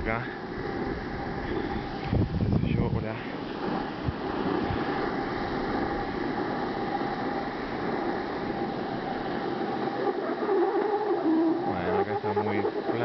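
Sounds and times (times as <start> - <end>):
snowboard scraping over snow: 0.0 - 13.0.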